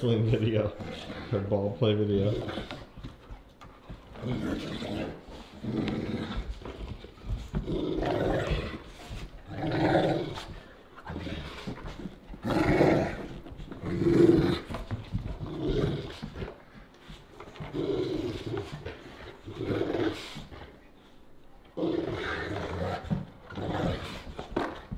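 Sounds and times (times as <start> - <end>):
dogs growling in play: 0.0 - 20.8, 21.7 - 24.9.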